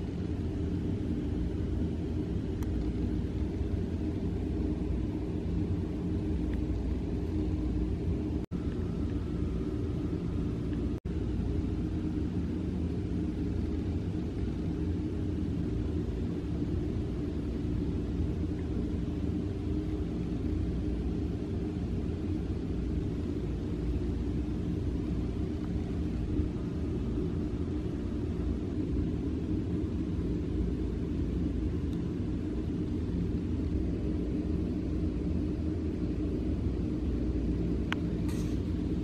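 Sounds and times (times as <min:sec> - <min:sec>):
machinery droning hum: 0:00.0 - 0:39.0.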